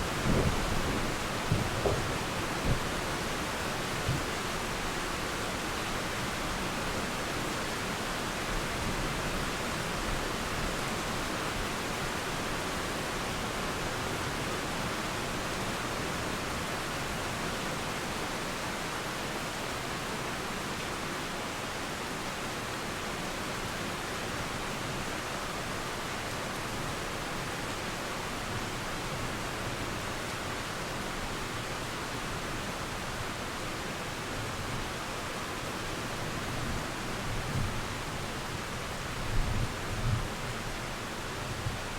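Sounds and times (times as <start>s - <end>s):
river flowing: 0.0s - 41.9s
steady rain: 0.0s - 41.9s.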